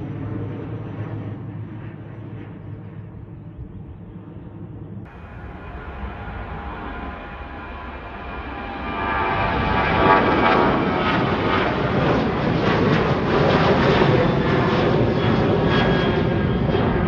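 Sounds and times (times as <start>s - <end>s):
airliner engines at takeoff: 0.0s - 17.0s.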